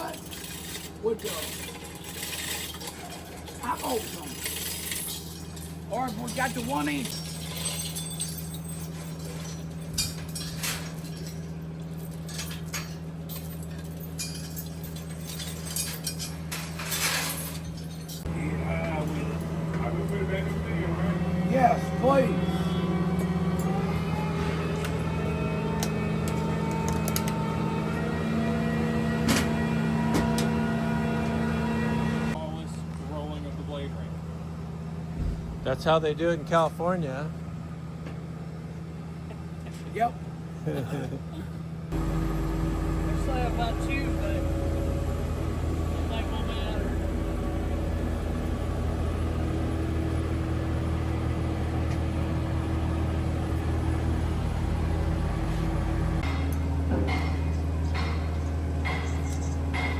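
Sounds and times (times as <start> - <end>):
steady machinery hum: 0.0 - 59.9.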